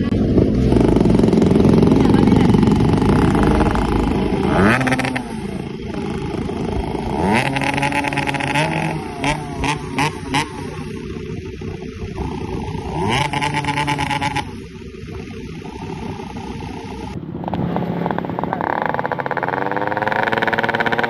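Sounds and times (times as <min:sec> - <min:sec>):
motorcycle engine idling: 0:00.0 - 0:21.0
motorcycle engine revving: 0:00.0 - 0:21.0.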